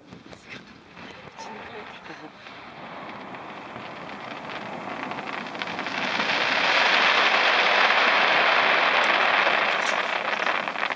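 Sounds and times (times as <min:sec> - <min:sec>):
fireworks crackling: 0:00.0 - 0:10.9.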